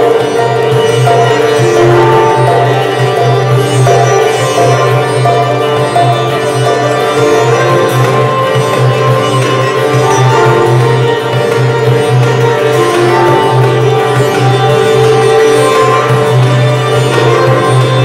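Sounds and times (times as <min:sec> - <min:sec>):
hand drum: 0:00.0 - 0:18.0
koto playing: 0:00.0 - 0:18.0
sitar melody: 0:00.0 - 0:18.0.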